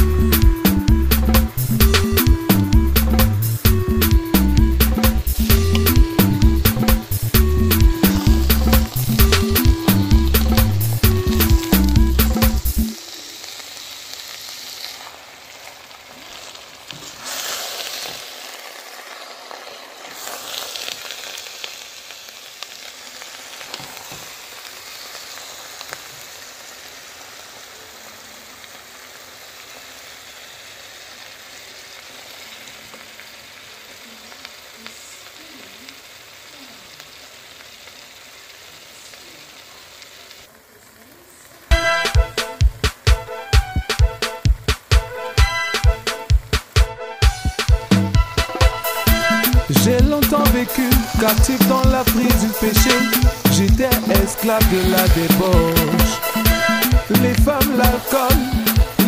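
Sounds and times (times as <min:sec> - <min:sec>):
food sizzling in a pot: 0:00.0 - 0:59.0.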